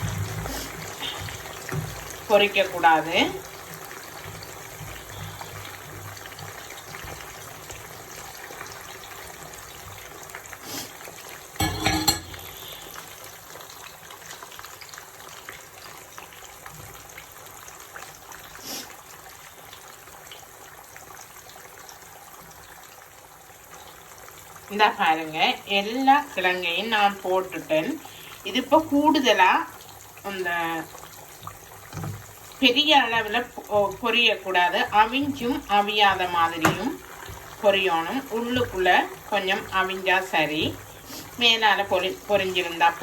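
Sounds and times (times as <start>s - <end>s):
oil sizzling while deep-frying: 0.0s - 43.0s.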